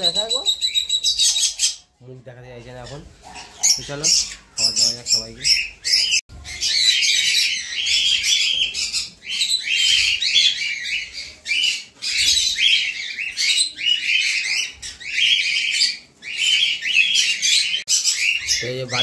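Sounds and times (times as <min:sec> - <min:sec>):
birds chattering and screeching: 0:00.0 - 0:19.0.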